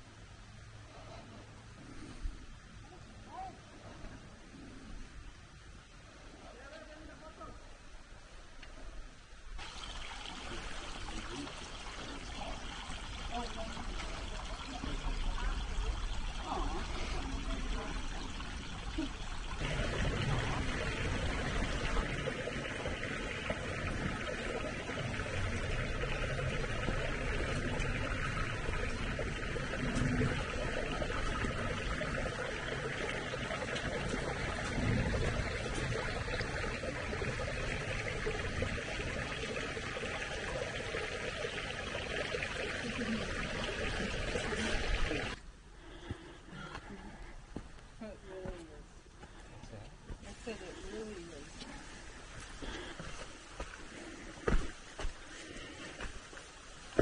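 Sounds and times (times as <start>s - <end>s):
trickling stream: 0.0s - 57.0s.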